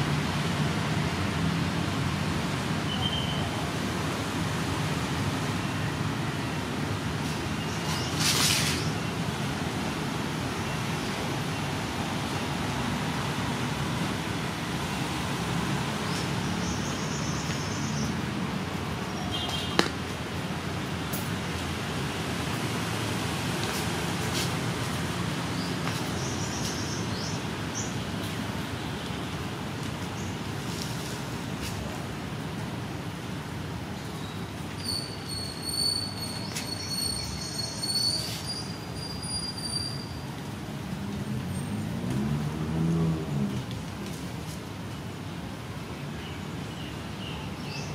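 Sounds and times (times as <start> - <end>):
distant traffic noise: 0.0 - 47.9.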